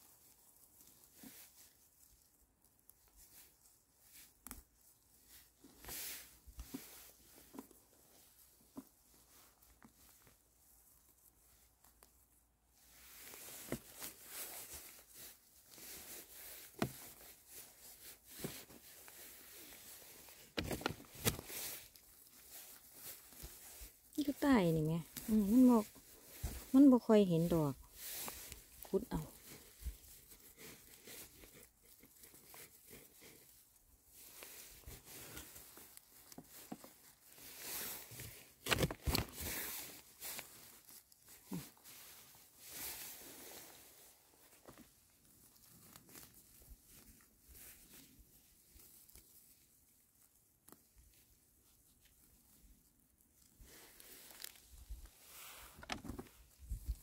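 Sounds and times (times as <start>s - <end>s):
dry leaves and soil crunching: 0.0s - 57.0s
rustling on forest floor: 0.0s - 57.0s.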